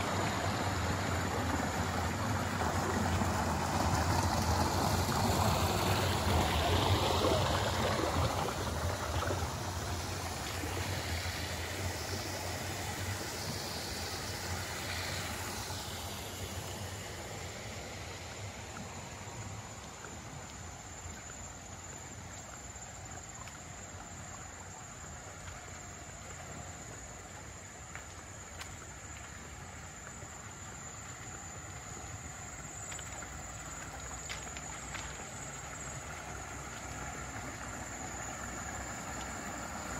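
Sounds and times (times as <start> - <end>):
water rushing over small cascade: 0.0 - 39.9.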